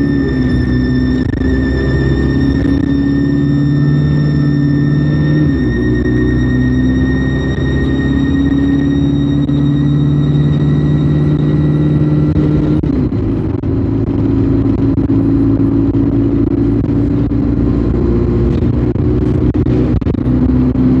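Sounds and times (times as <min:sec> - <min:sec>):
bus engine running: 0:00.0 - 0:21.0
high whine: 0:00.0 - 0:21.0.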